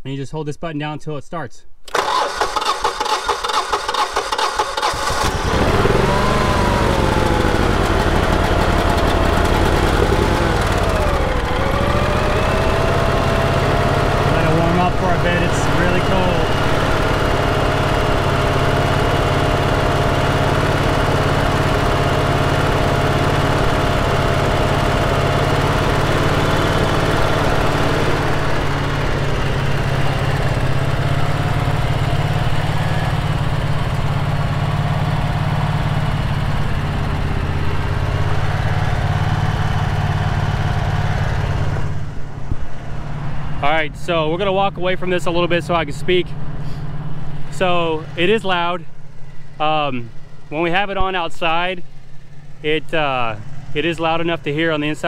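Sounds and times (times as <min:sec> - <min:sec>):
generator engine running: 0:01.9 - 0:55.0.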